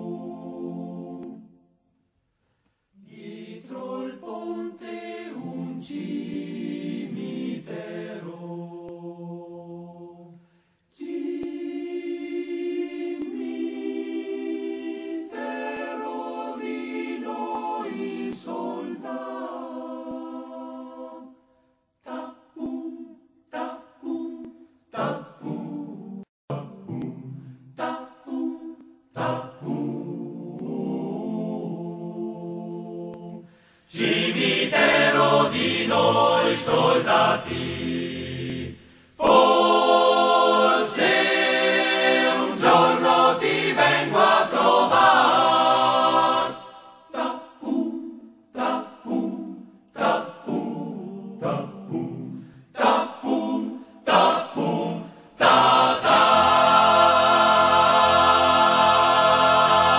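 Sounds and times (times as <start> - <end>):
choir singing: 0.0 - 1.8, 2.9 - 59.9.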